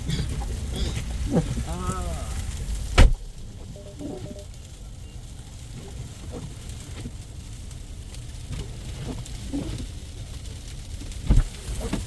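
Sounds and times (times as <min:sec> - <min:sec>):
steady low rumble: 0:00.0 - 0:11.7
ice pellets ticking against a car: 0:00.0 - 0:12.0.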